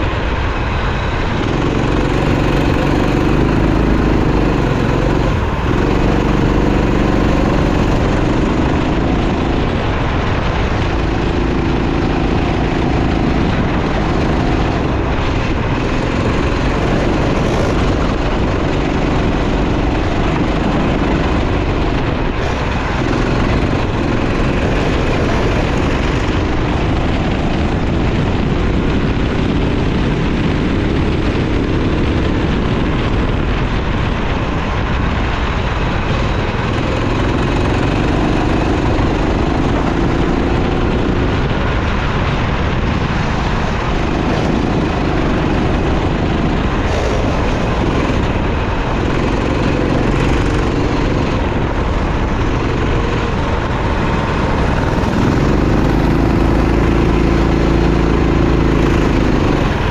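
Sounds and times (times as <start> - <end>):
go-kart engine revving: 0.0 - 59.9
steady rushing noise: 0.0 - 59.9.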